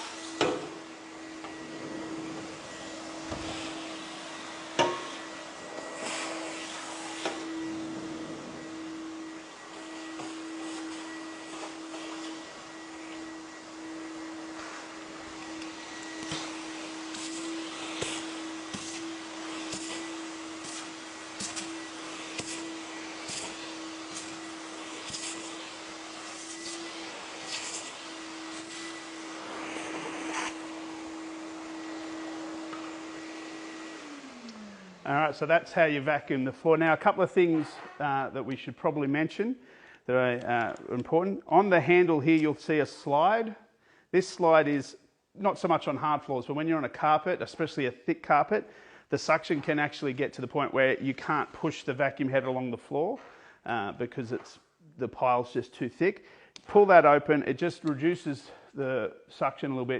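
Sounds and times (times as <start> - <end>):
vacuum cleaner running: 0.0 - 39.3, 45.6 - 52.5, 56.7 - 58.7.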